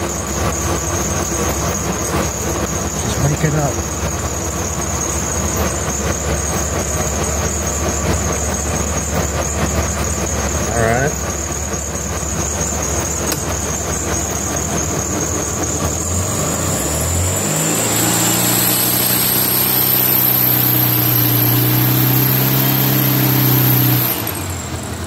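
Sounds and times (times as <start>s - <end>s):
car engine revving on a dyno: 0.0s - 25.0s.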